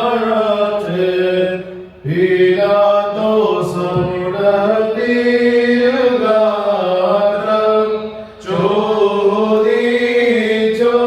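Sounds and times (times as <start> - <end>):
liturgical chant singing: 0.0 - 11.0.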